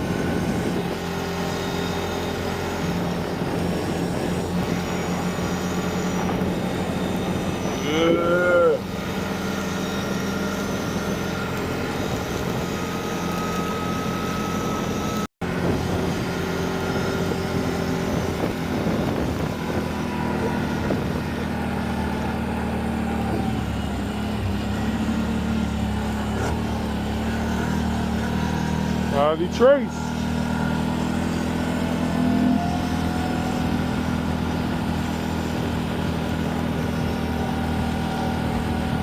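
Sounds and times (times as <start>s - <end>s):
car engine hum: 0.0s - 39.0s
road noise: 0.0s - 39.0s.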